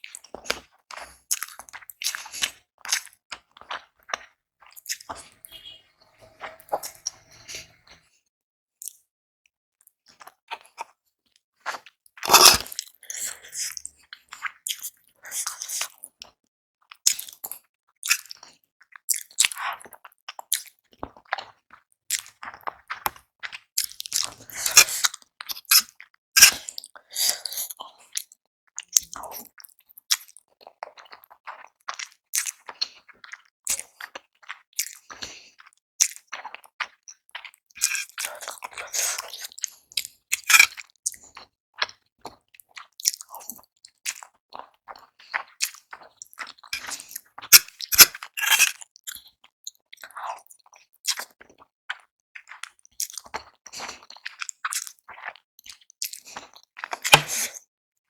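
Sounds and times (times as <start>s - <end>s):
close-miked chewing noodles: 0.0s - 7.9s, 11.7s - 57.7s.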